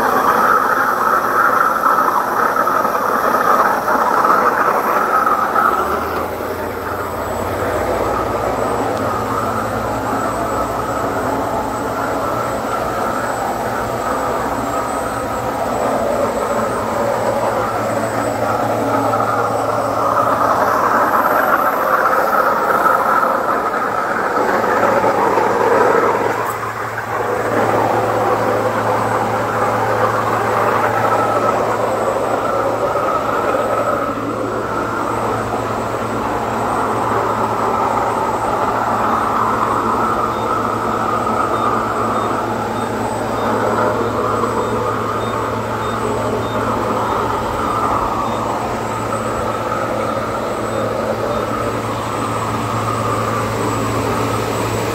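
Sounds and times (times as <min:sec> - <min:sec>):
steady low hum: 0:00.0 - 0:54.9
waterjet cutting noise: 0:00.0 - 0:54.9.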